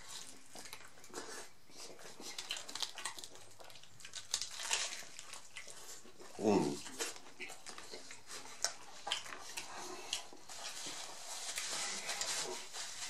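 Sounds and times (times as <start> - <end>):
crunchy taco chewing: 0.0 - 13.0.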